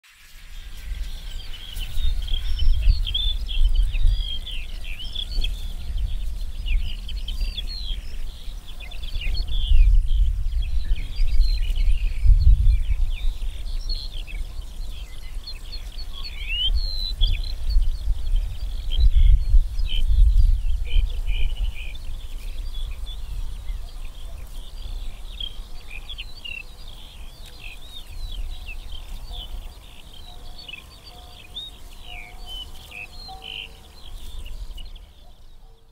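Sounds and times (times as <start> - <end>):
small birds chirping: 0.0 - 35.9
wind buffeting microphone: 0.3 - 33.0.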